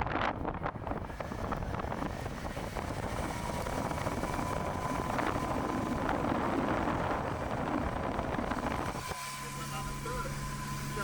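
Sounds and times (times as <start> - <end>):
vehicle engines rumbling: 0.0 - 11.0
wind buffeting microphone: 0.0 - 11.0
thin steady whine: 0.6 - 11.0.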